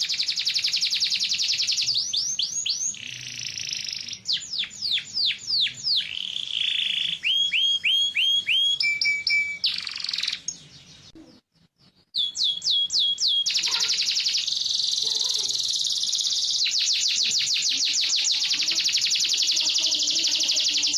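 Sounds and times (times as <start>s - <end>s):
canary singing: 0.0s - 20.9s.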